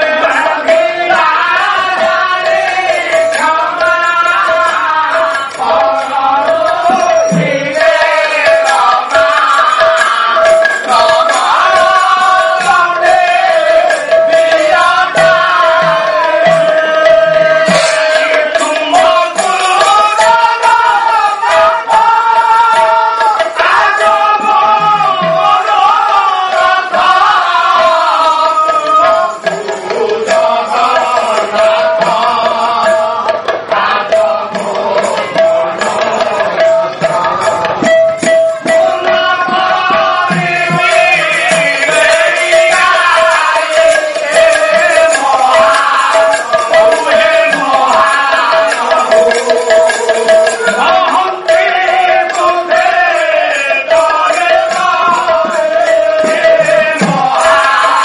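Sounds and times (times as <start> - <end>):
hand drum beat: 0.0 - 58.0
voices singing: 0.0 - 58.0.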